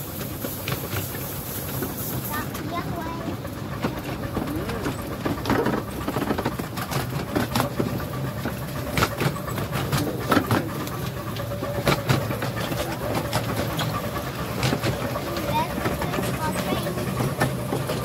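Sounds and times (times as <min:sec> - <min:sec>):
train rumble: 0:00.0 - 0:18.0
wheels clicking on rail joints: 0:00.0 - 0:18.0.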